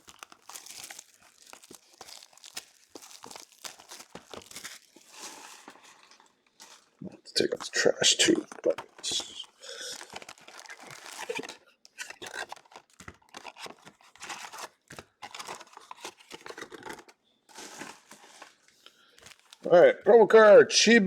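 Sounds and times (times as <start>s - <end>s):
plastic wrapping torn and crumpled: 0.0s - 7.0s, 8.0s - 19.7s.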